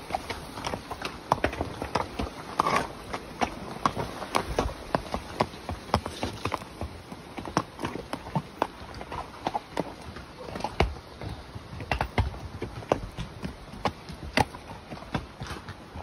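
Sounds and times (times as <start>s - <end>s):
hooves clip-clopping on rocky trail: 0.0s - 16.0s.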